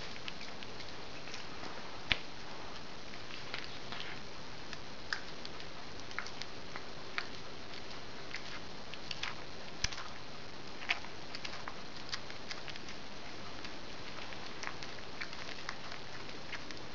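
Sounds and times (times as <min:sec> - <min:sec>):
cat chewing and crunching: 0:00.0 - 0:16.9
steady hiss: 0:00.0 - 0:16.9.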